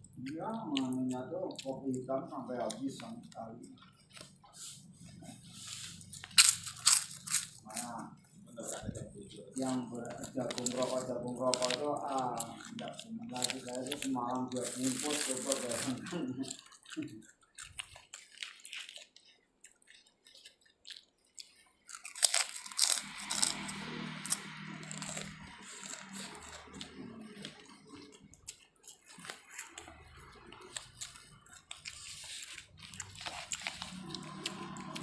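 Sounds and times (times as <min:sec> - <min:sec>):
chewing with crunching: 0:00.0 - 0:35.0.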